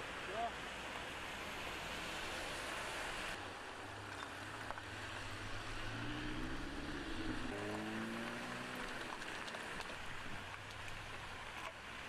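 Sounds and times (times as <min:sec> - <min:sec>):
street noise hiss: 0:00.0 - 0:12.0.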